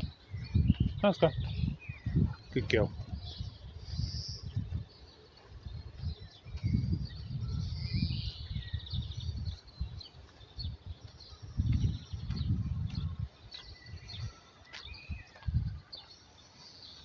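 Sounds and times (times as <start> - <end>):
low rumbling on microphone: 0.0 - 14.3, 15.1 - 15.9
songbirds chirping and singing: 0.0 - 17.0.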